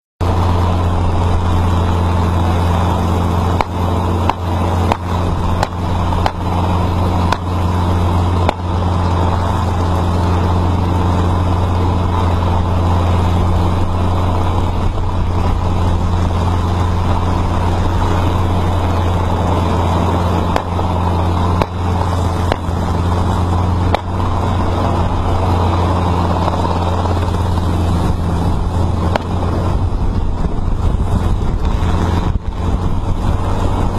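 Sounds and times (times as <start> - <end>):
vehicle engine droning: 0.2 - 33.9.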